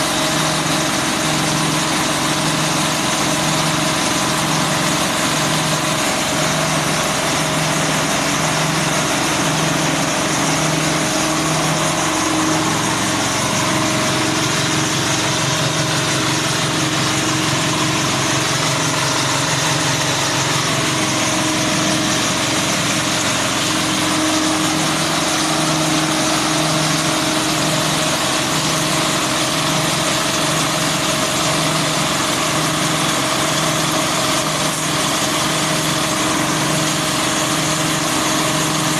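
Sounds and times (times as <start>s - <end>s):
diesel engine pulsing: 0.0s - 38.9s
grass chopper whirring: 0.0s - 38.9s.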